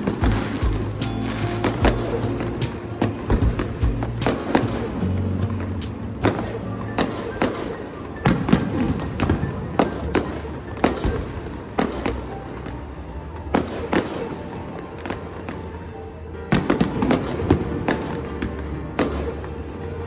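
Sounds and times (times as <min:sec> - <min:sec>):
music playing: 0:00.0 - 0:20.0.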